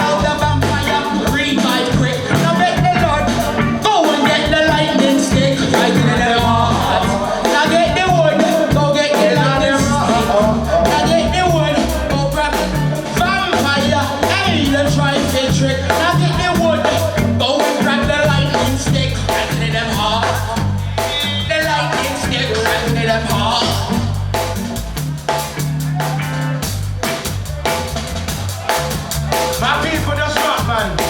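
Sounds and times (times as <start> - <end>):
deep repeating bass line: 0.0 - 31.0
reggae band playing: 0.0 - 31.0.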